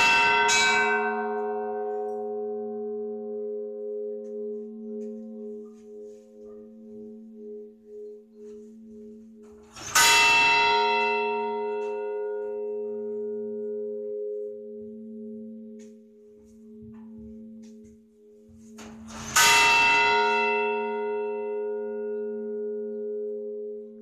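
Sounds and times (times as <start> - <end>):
large bell clanging: 0.0 - 24.0.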